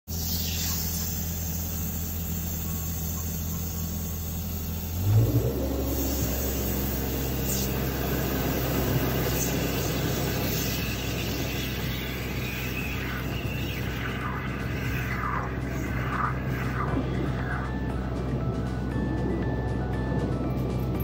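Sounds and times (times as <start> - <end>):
drain jetter engine humming: 0.1 - 21.0.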